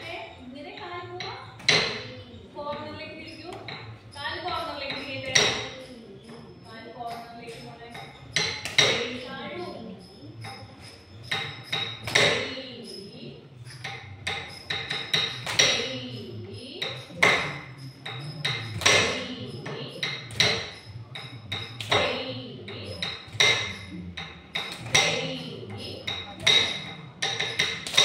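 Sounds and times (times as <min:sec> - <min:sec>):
ringing rhythmic strikes: 0:00.0 - 0:28.0.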